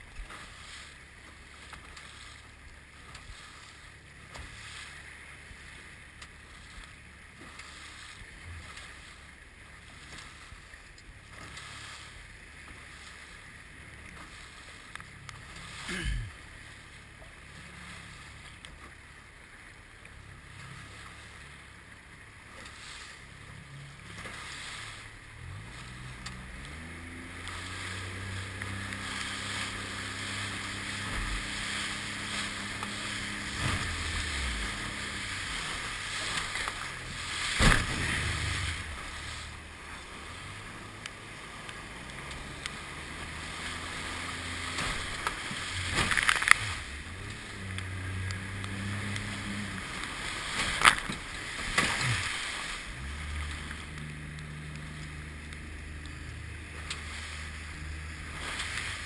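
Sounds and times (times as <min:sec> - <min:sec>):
outboard motor running: 0:00.0 - 0:59.0
water slapping a boat: 0:00.0 - 0:59.0
wind and water noise: 0:00.0 - 0:59.0.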